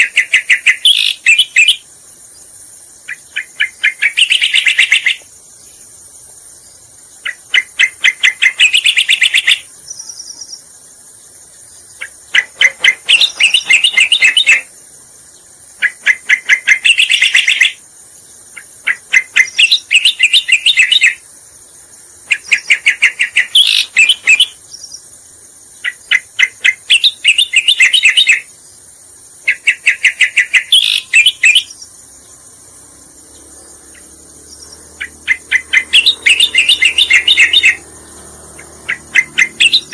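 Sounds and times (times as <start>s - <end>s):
bird chattering song: 0.0s - 32.5s, 33.2s - 39.9s
high insect-like hiss: 0.0s - 39.9s.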